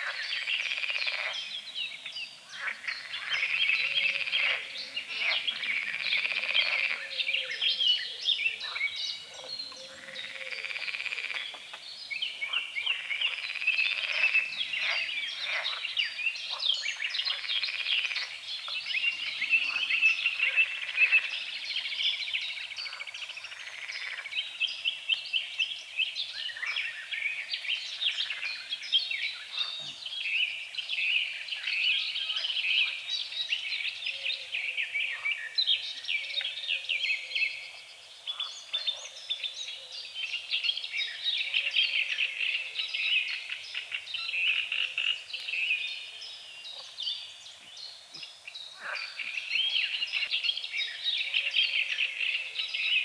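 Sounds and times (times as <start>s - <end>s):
frogs croaking: 0.0s - 24.8s, 26.3s - 33.1s, 40.8s - 53.0s
birds singing: 0.0s - 53.0s.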